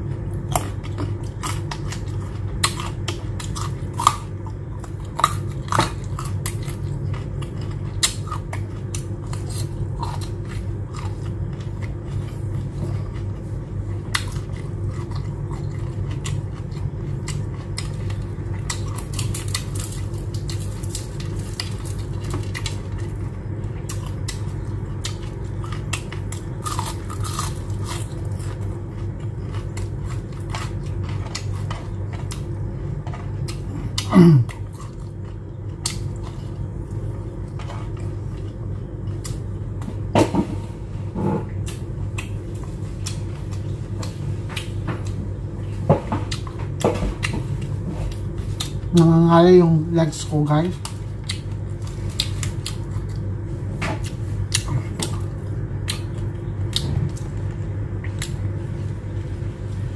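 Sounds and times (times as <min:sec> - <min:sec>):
crunchy chewing: 0:00.0 - 0:40.1, 0:41.0 - 0:49.1, 0:50.7 - 0:59.9
steady low hum: 0:00.0 - 0:59.9.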